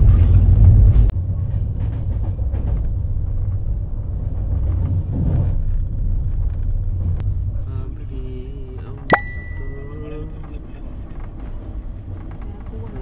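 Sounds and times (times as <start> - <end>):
train rumbling on track: 0.0 - 9.1, 9.7 - 13.0.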